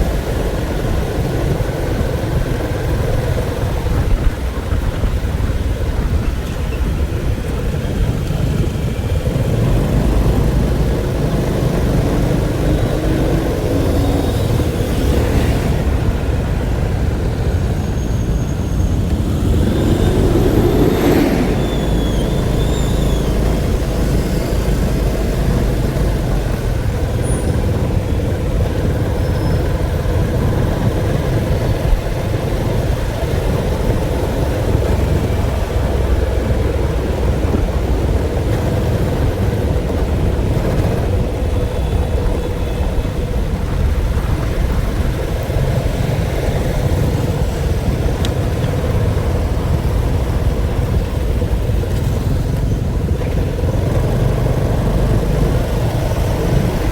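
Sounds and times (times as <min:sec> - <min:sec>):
moving vehicle rumble: 0:00.0 - 0:56.9.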